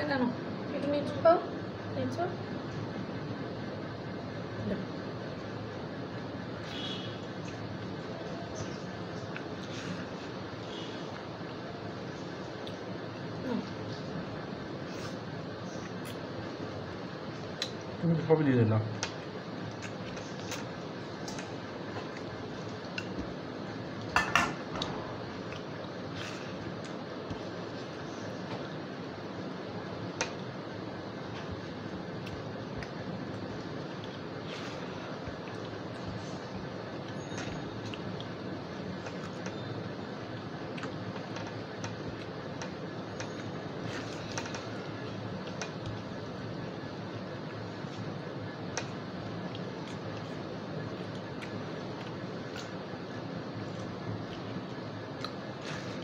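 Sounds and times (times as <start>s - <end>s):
people eating with hands: 2.4s - 56.0s.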